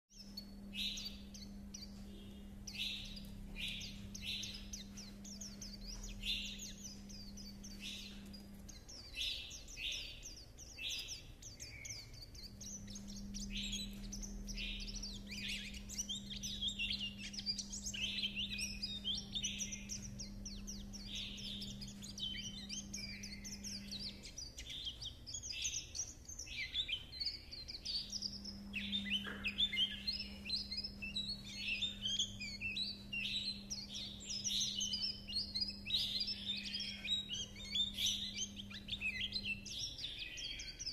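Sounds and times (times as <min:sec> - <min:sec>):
white-eye high twittering song: 0:00.1 - 0:40.9.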